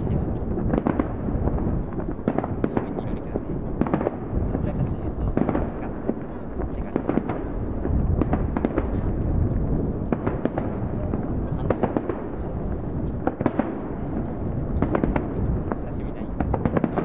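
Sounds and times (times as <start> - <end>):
fireworks cracks and bangs: 0.0 - 17.0
low rumble of booms: 0.0 - 17.0.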